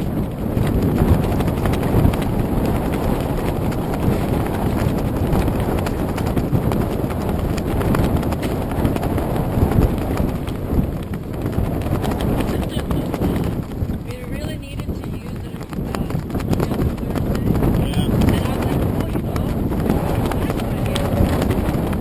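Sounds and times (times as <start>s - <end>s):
choppy water against vessel: 0.0s - 22.0s
wind rumble: 0.0s - 22.0s.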